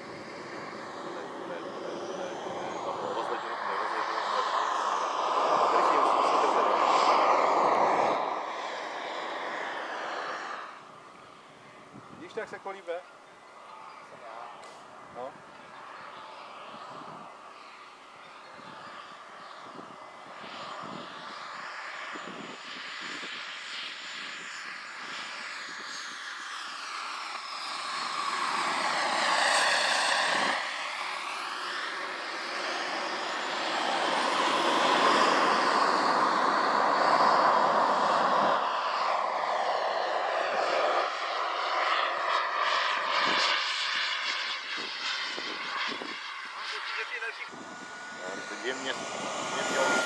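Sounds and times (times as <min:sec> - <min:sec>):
model jet engine whine: 0:00.0 - 0:50.0.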